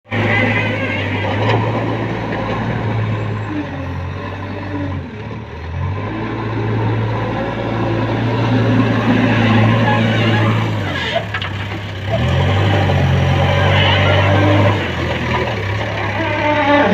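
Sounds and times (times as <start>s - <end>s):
heavy diesel engine running: 0.1s - 16.9s.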